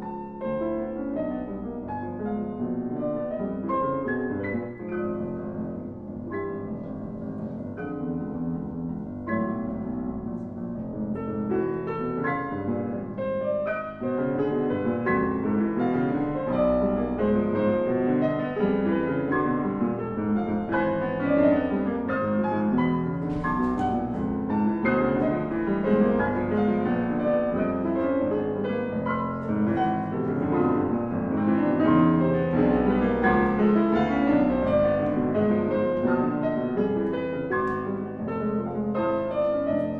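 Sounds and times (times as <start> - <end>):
piano playing quick notes: 4.0 - 39.9.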